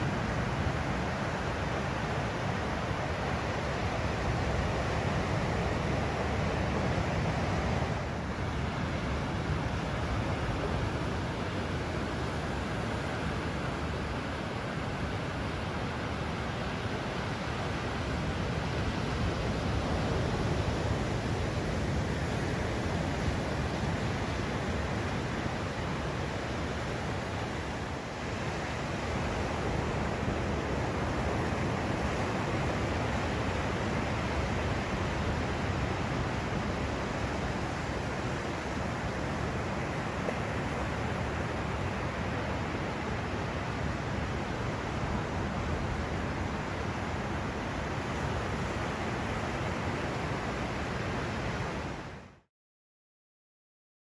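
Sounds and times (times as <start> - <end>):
ocean surf: 0.0 - 52.4.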